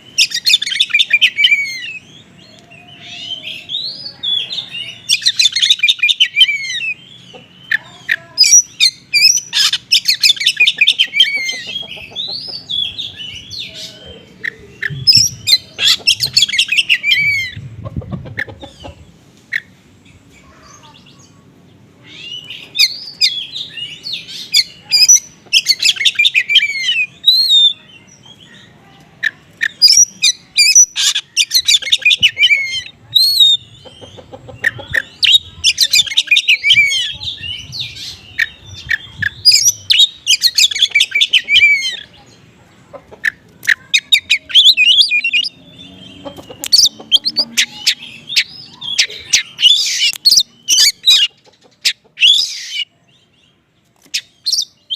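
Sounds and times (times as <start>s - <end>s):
bird singing chirps and trills: 0.0s - 54.9s.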